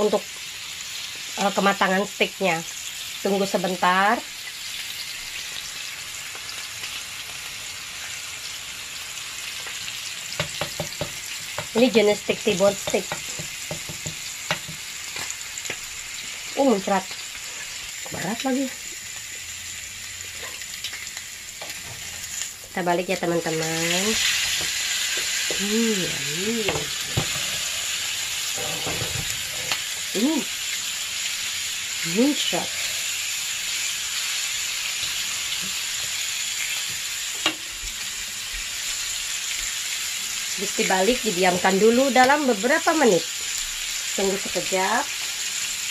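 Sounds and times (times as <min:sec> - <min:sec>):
steaks sizzling in pan: 0:00.0 - 0:45.9.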